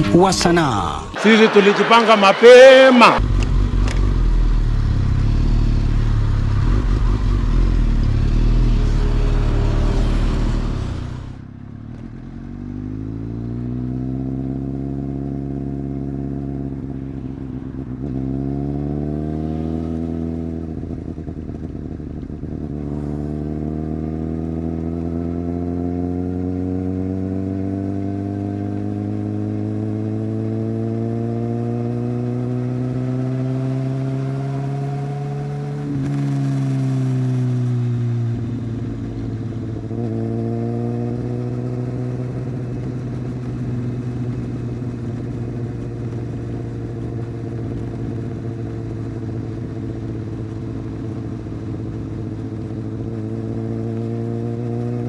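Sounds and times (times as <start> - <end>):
motorcycle engine revving: 3.1 - 55.0.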